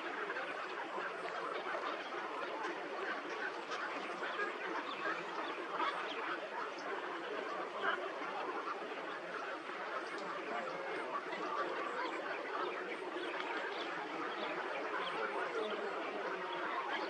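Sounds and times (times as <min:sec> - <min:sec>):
birds honking and quacking: 0:00.0 - 0:17.0.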